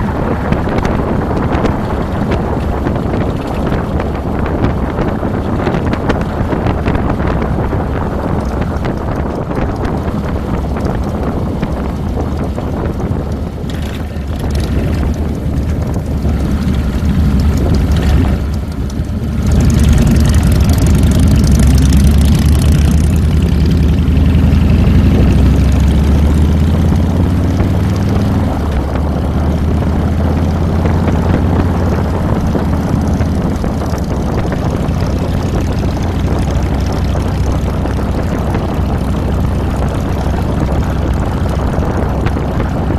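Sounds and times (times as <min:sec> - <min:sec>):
motorcycle engine running: 0:00.0 - 0:42.9
wind on microphone: 0:00.0 - 0:42.9.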